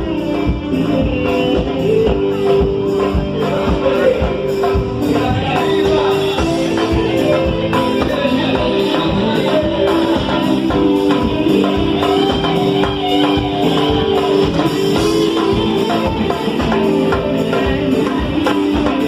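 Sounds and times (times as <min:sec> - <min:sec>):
band playing: 0:00.0 - 0:19.0
percussion beat: 0:00.0 - 0:19.0
person singing: 0:00.0 - 0:19.0.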